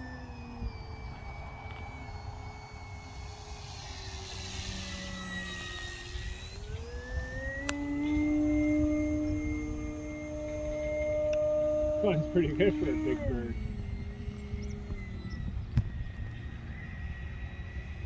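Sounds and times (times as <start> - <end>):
model plane motor whine: 0.0 - 18.0.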